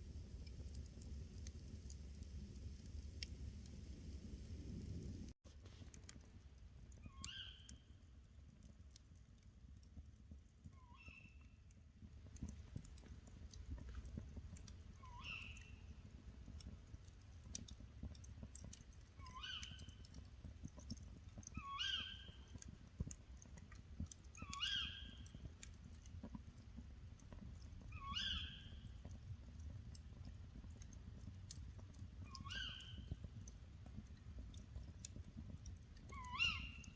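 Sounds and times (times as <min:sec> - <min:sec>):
faint crackling clicks: 0:00.3 - 0:36.9.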